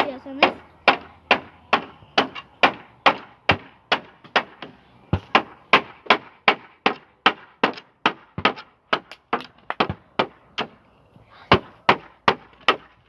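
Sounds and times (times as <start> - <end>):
hammer striking wooden boards: 0.4 - 10.8, 11.5 - 13.0.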